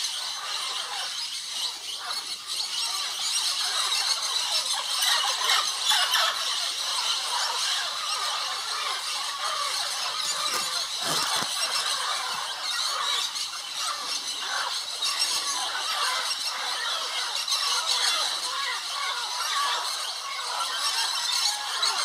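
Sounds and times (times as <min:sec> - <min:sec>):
parrots squealing and squawking: 0:00.0 - 0:22.0.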